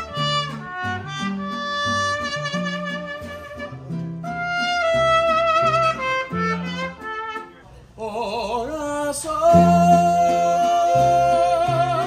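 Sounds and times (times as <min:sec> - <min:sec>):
mariachi band playing slow song: 0:00.0 - 0:12.0.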